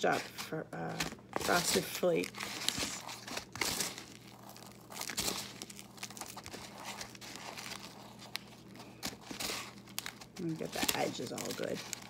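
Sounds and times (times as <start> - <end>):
crushed cereal crinkling: 0.2 - 12.0.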